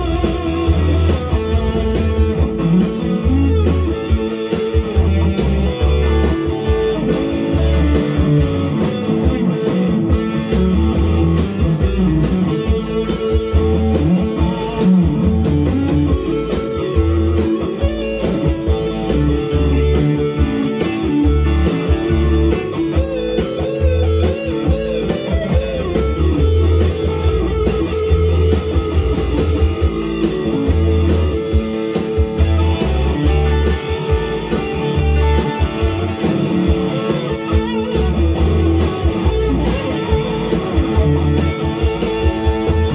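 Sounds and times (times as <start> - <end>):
bass line: 0.0 - 42.9
electric guitar: 0.0 - 42.9.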